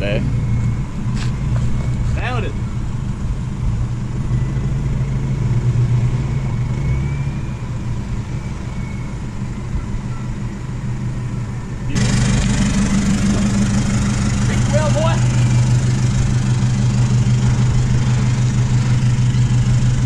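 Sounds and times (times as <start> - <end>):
engine idling close by: 0.0 - 20.0
vehicle engine running at low revs: 0.0 - 20.0.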